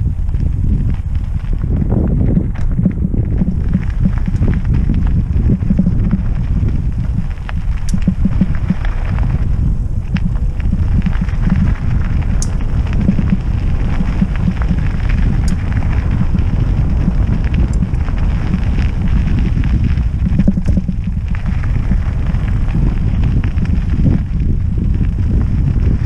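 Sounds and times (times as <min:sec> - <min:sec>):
bike clicks and rattles: 0:00.0 - 0:26.0
tyre rumble on dirt: 0:00.0 - 0:26.0
wind buffeting microphone: 0:00.0 - 0:26.0.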